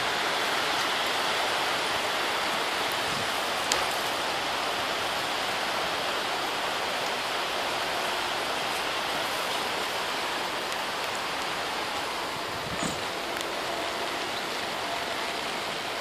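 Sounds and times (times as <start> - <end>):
rain on plastic sheeting: 0.0 - 16.0.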